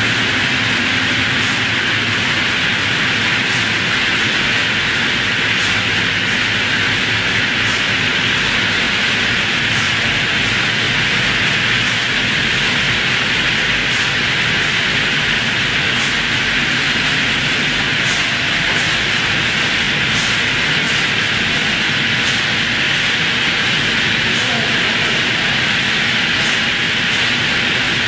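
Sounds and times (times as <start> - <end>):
factory machinery hissing: 0.0 - 28.0.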